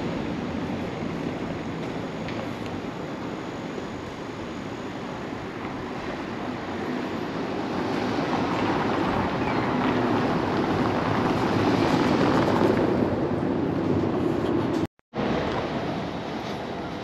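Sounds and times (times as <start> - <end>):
tyres on cobblestones: 0.0 - 17.0.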